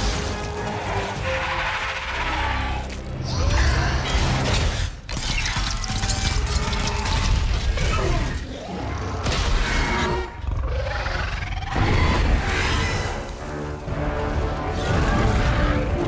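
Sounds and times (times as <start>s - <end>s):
dramatic orchestral score: 0.0s - 10.7s, 11.7s - 16.0s.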